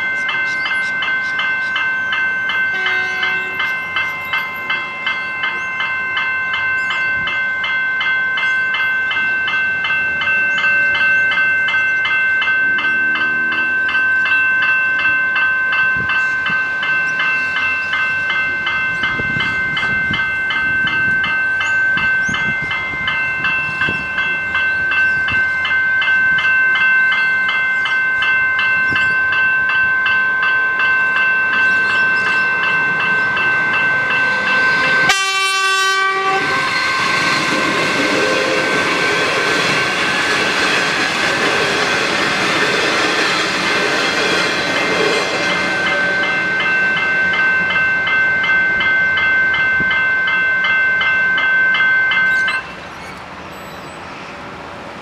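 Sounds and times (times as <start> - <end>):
electronic level crossing bells ringing: 0.0 - 40.2, 44.7 - 52.7.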